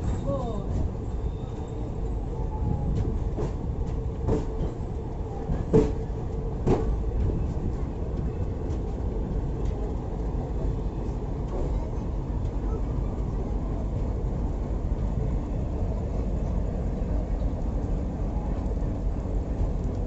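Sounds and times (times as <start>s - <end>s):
train rumbling on track: 0.0s - 20.0s.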